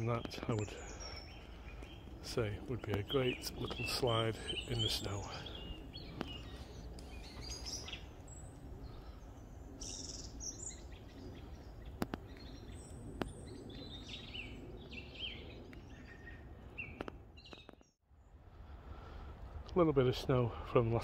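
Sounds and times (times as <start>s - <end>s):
birds chirping and calling: 0.0s - 17.9s.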